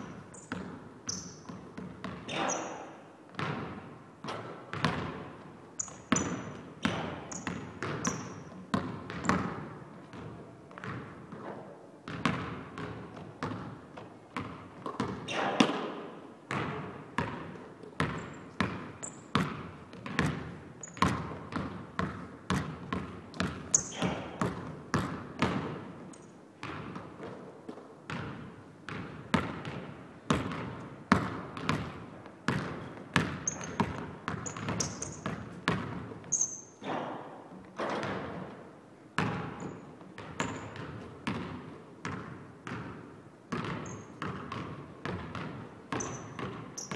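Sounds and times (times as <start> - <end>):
basketball bouncing on wooden floor: 0.0 - 27.4, 28.1 - 38.6, 39.2 - 46.9.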